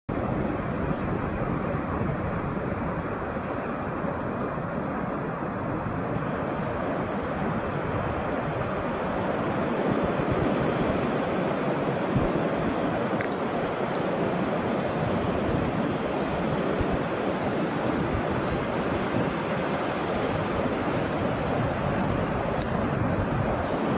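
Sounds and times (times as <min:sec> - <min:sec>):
sea waves washing onto shore: 0:00.1 - 0:23.9
wind rumbling on microphone: 0:00.1 - 0:23.9.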